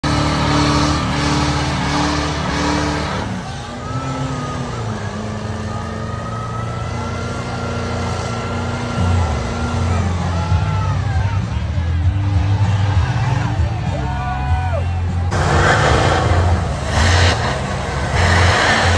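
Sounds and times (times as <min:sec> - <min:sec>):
diesel truck engine under load: 0:00.0 - 0:14.2, 0:14.8 - 0:18.9.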